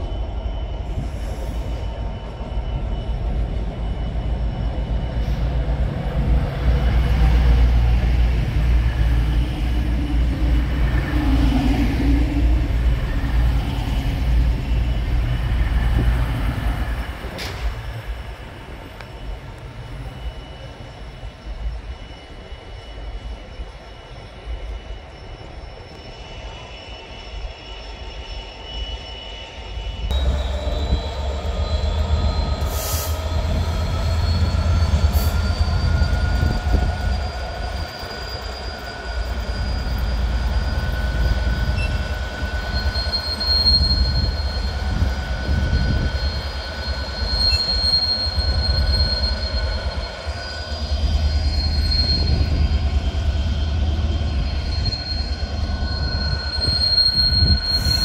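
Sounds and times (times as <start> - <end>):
train rumble: 0.0 - 58.0
high-pitched wheel squeal: 0.8 - 58.0.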